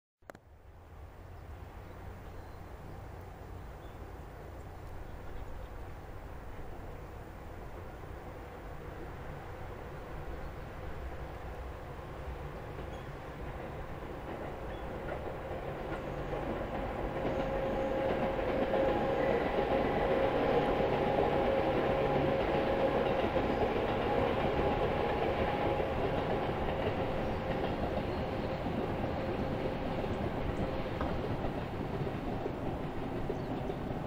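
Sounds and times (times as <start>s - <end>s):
train running past: 0.6s - 34.0s.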